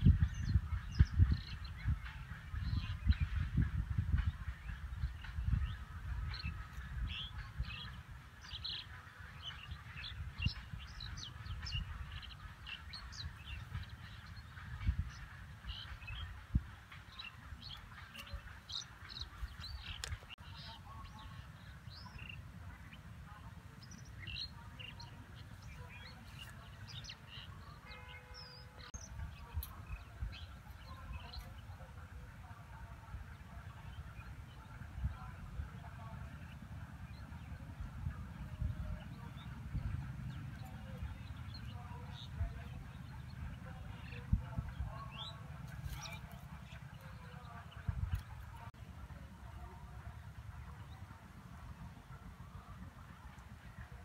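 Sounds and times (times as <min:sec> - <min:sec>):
birds chirping: 0:00.0 - 0:54.0
low uneven rumble: 0:00.0 - 0:54.0.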